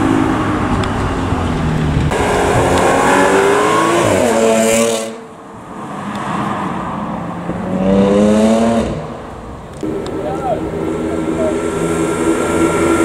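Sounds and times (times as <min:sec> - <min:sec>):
car accelerating: 0:00.0 - 0:13.0.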